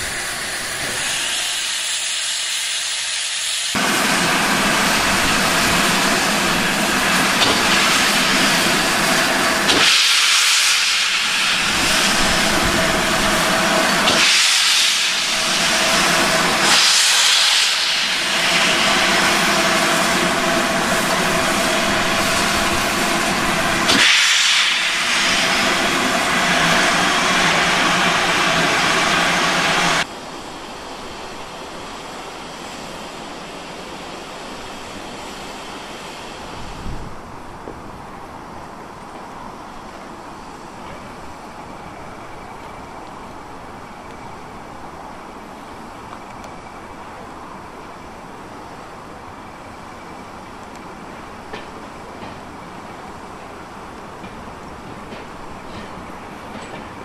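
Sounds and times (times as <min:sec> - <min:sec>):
steady windy rush: 0:00.0 - 0:57.0
steam locomotive hissing: 0:00.0 - 0:57.0.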